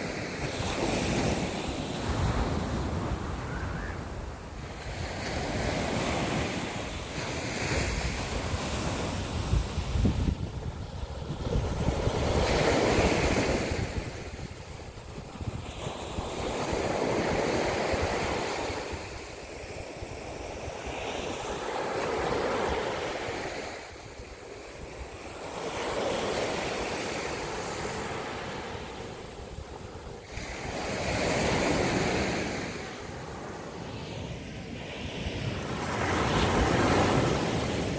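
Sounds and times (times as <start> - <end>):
waves breaking on beach: 0.0 - 37.9.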